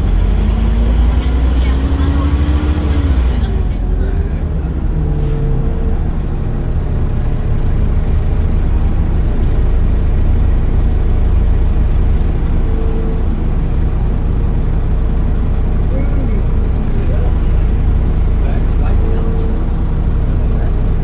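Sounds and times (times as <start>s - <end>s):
bus engine drone: 0.0s - 21.0s
faint engine whine: 0.0s - 21.0s.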